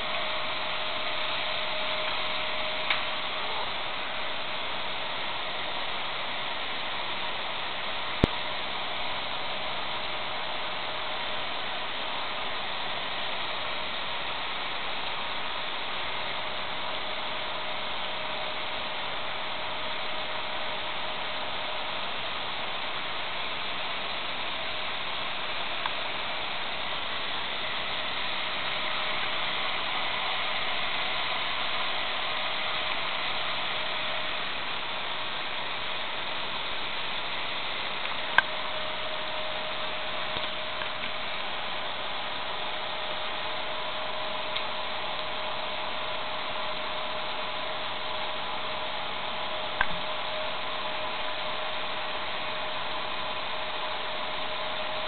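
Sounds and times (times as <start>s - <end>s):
faint steady hum: 0.0s - 55.0s
steady background hiss: 0.0s - 55.0s.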